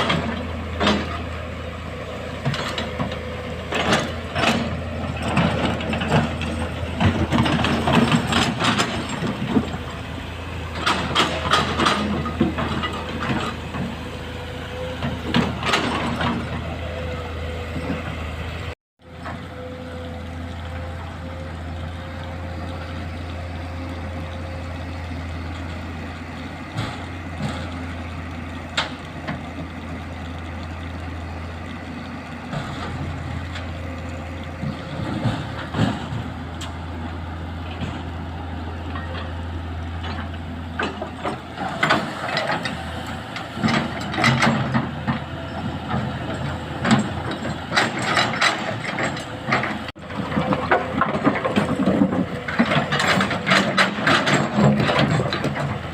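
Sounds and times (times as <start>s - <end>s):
excavator diesel engine humming: 0.0s - 55.9s.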